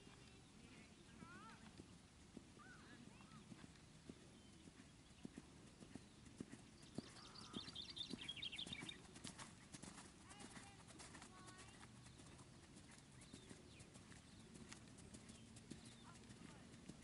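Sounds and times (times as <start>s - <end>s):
horse hoofbeats on sand: 3.2s - 17.0s.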